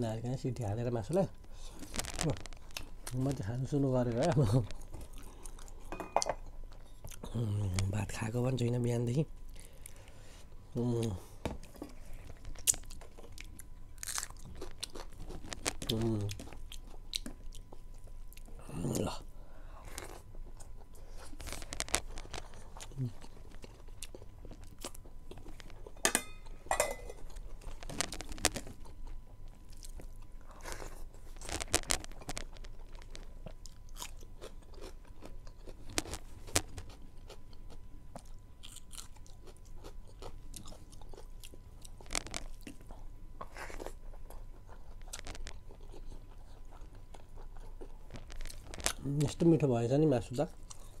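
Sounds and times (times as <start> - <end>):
person chewing food: 1.5 - 3.4, 4.1 - 5.9, 6.7 - 8.0, 11.6 - 49.3, 50.5 - 51.0.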